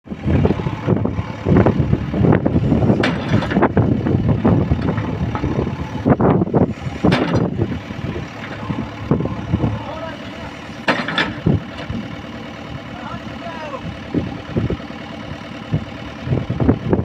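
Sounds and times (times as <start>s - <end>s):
diesel machinery engine running: 0.0s - 17.0s.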